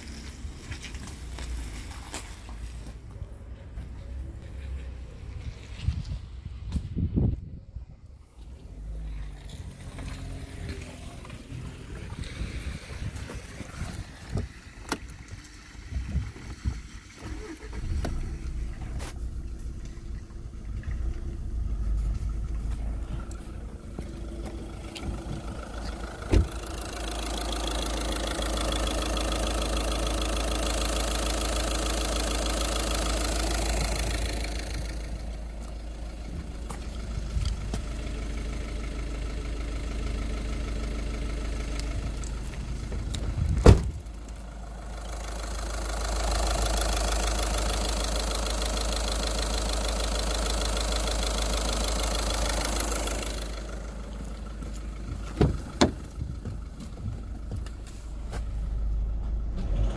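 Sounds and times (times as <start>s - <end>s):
diesel engine starting and idling: 7.6s - 59.9s.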